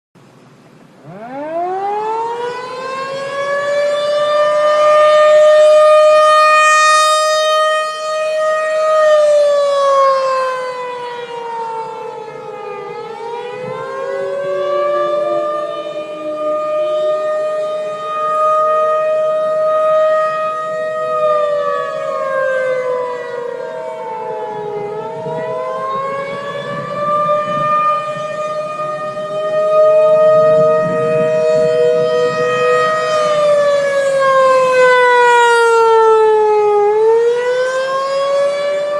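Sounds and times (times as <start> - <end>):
mechanical siren wailing: 1.0 - 38.9.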